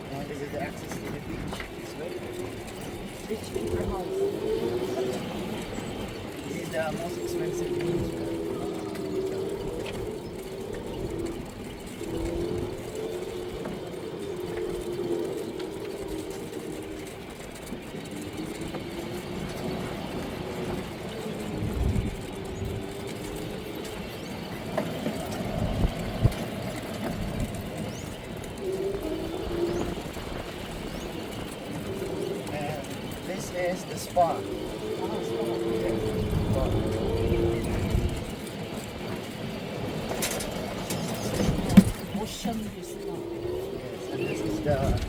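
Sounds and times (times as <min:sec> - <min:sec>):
cart bumps: 0:00.0 - 0:43.1.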